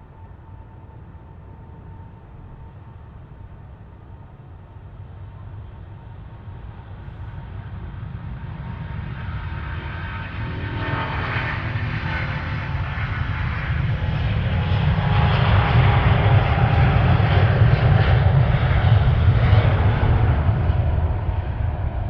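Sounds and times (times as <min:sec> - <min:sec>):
airliner jet engines roaring: 0:00.0 - 0:22.0.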